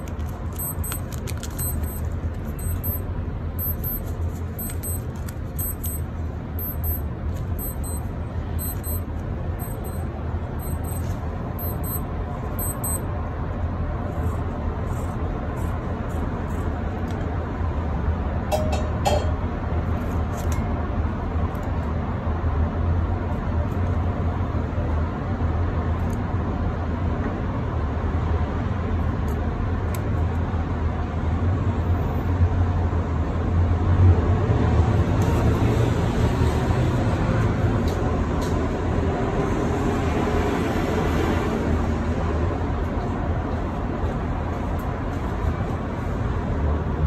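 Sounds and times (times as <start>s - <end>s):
moving vehicle rumble: 0.0s - 47.0s.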